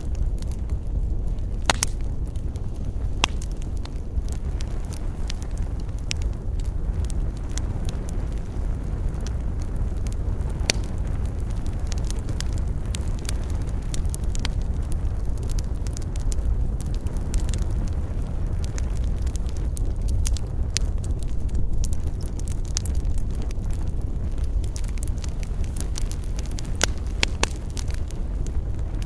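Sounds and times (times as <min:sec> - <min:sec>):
fire crackling and popping: 0:00.0 - 0:29.0
fire low rumble: 0:00.0 - 0:29.0.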